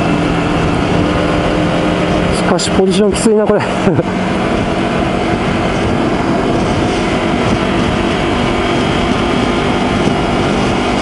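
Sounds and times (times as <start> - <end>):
motorcycle engine running: 0.0 - 11.0
wind rushing: 0.0 - 11.0.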